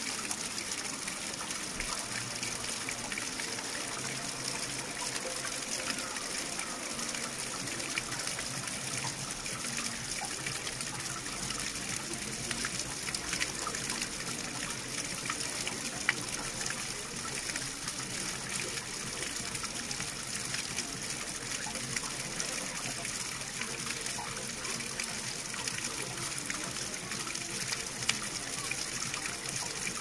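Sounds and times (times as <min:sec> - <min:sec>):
water flowing: 0:00.0 - 0:30.0.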